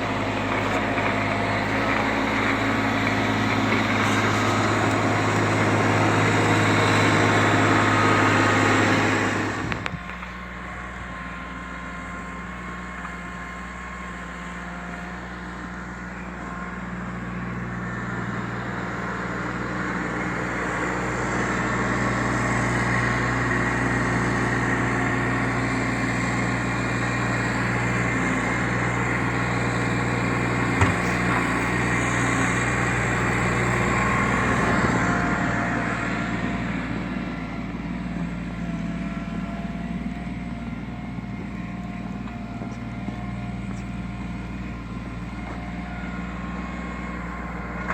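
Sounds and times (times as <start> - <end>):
engine droning: 0.0 - 47.9.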